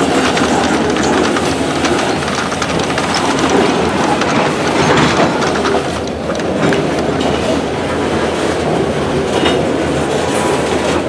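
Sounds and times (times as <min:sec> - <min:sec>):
freight train rumbling past: 0:00.0 - 0:11.0
wheels clicking over rail joints: 0:00.0 - 0:11.0.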